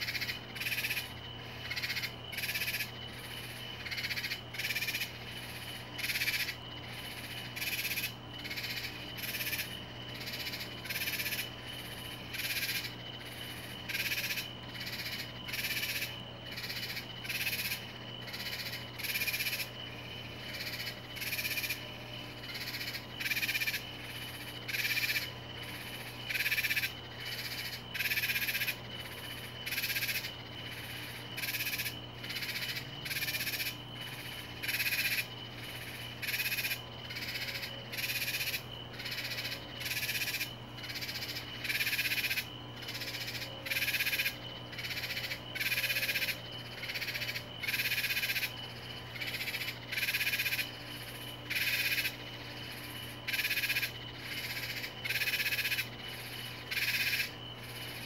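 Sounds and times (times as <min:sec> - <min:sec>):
raspy animal calls: 0:00.0 - 0:58.0.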